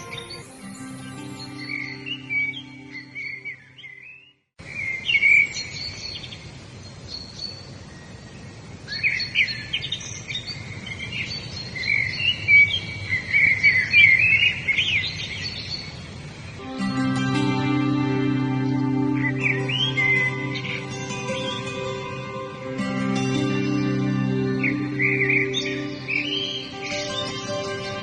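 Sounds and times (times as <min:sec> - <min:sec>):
songbirds chirping and warbling: 0:00.0 - 0:28.0.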